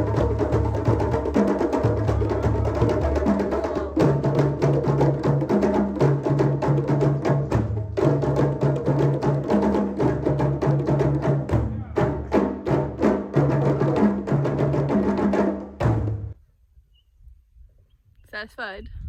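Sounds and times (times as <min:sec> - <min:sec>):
percussive beat: 0:00.0 - 0:16.4.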